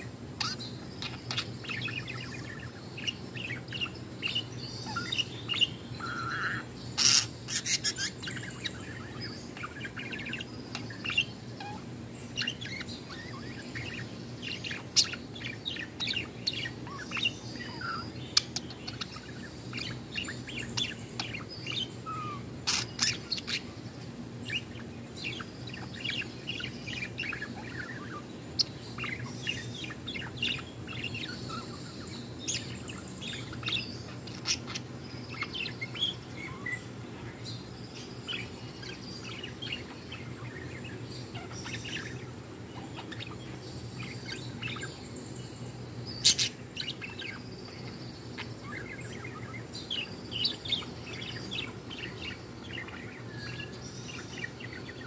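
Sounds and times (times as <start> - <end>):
budgerigar chirping: 0.0 - 23.8, 24.4 - 36.8, 38.0 - 45.0, 46.2 - 55.0
steady low hum: 0.0 - 55.0.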